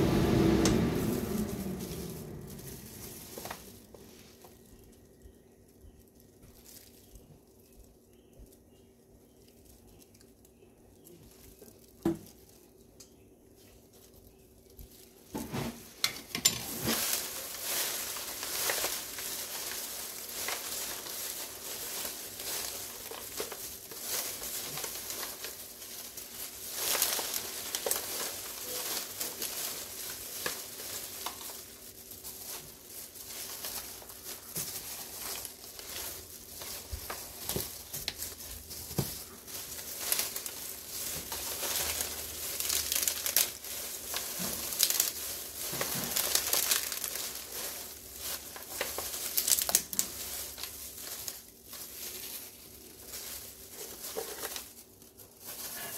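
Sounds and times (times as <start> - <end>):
rice paper crinkling in foil pan: 0.0 - 55.9.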